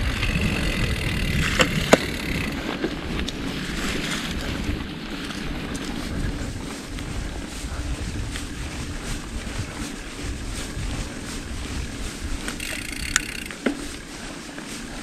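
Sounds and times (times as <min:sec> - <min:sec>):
low rumble of bike tyres: 0:00.0 - 0:15.0
wind rushing over microphone: 0:00.0 - 0:15.0.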